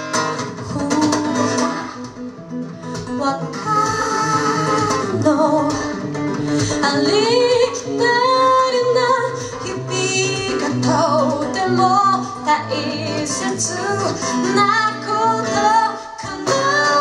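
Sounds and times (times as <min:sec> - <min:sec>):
guitar accompaniment: 0:00.0 - 0:17.0
woman singing into microphone: 0:00.4 - 0:02.0, 0:02.9 - 0:17.0.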